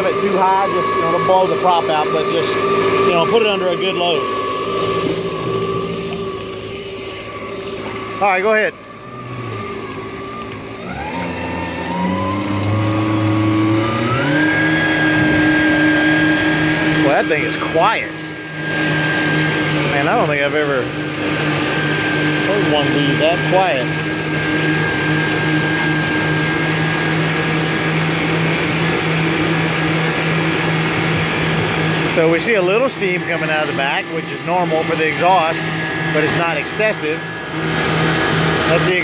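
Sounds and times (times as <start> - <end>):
watercraft engine revving: 0.0 - 39.0.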